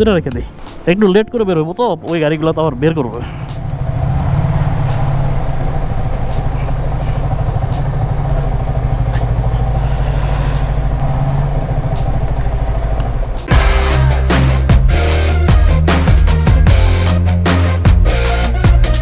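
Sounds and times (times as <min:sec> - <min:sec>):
motorcycle engine low putter: 0:00.0 - 0:18.0.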